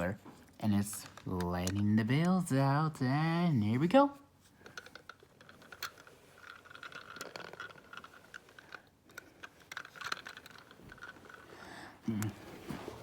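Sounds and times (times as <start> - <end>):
toy tractor clicking and scratching: 0.0 - 2.7, 3.5 - 11.6.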